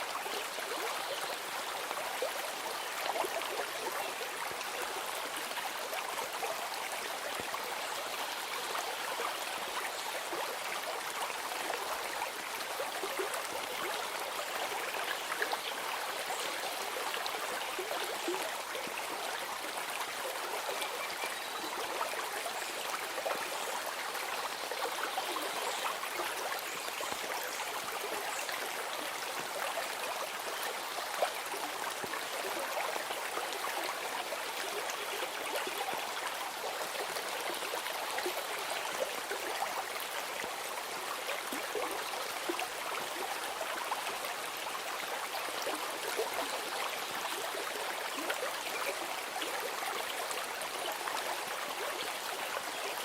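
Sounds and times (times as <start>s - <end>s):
stream babbling: 0.0s - 53.0s.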